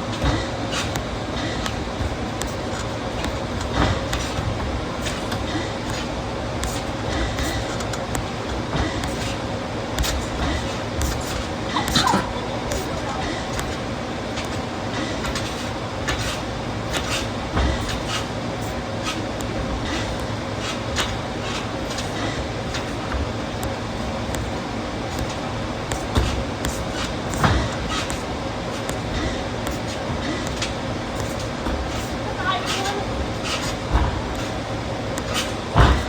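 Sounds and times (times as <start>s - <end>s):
din of background activity: 0.0s - 36.0s.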